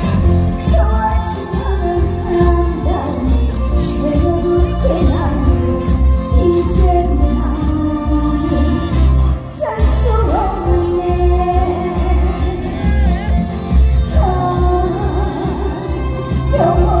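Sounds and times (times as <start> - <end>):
band with pulsing bass: 0.0 - 17.0
woman singing with vibrato: 0.0 - 17.0.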